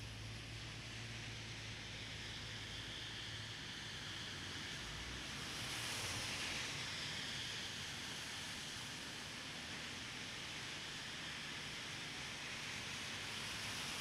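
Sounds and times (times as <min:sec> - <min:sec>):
traffic on wet street: 0:00.0 - 0:14.0.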